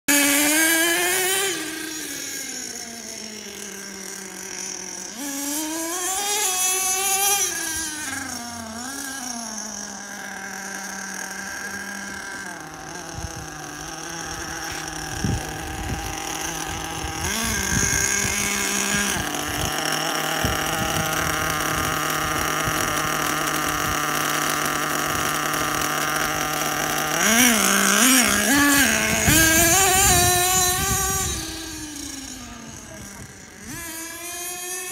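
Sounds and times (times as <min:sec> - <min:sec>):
rc truck engine revving: 0:00.1 - 0:34.9.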